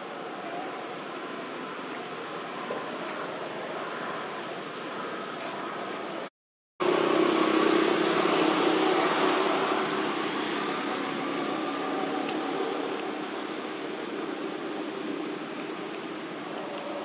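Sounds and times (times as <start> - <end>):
outdoor background noise: 0.0 - 17.0
steady mechanical hum: 0.0 - 17.0.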